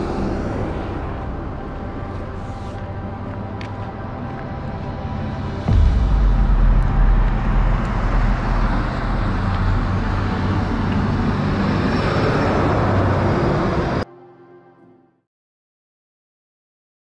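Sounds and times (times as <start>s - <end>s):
highway traffic noise: 0.0s - 14.6s.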